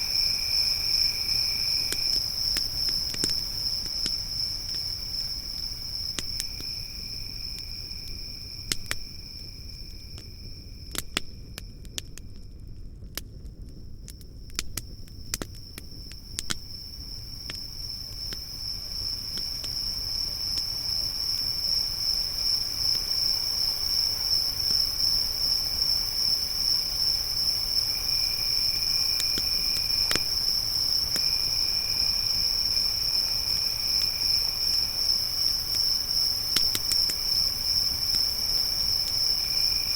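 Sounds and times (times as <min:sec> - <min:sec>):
lower insect trill: 0:00.0 - 0:12.4, 0:14.2 - 0:39.9
campfire crackling and popping: 0:00.0 - 0:39.9
crickets trilling: 0:00.0 - 0:39.9.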